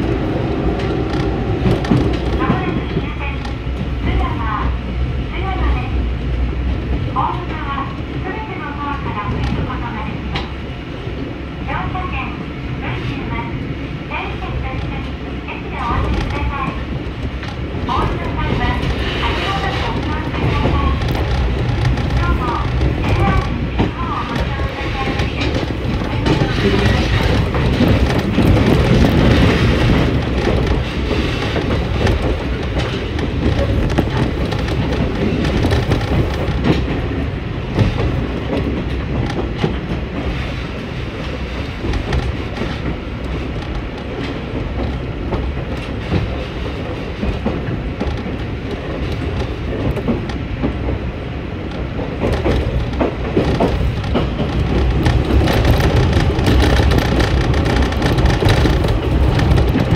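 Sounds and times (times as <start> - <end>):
train engine and wheels rumbling: 0.0 - 59.9.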